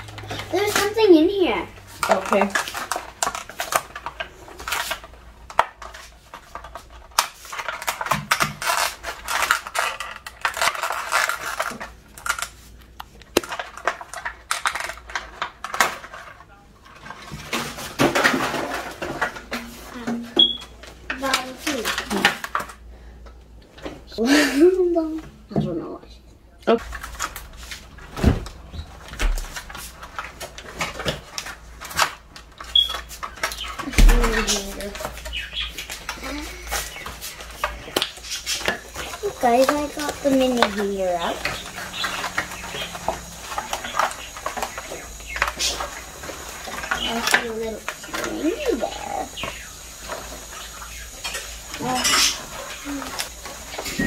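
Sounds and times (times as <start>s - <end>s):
plastic wrapper crinkling: 0.0s - 16.3s, 26.8s - 54.0s.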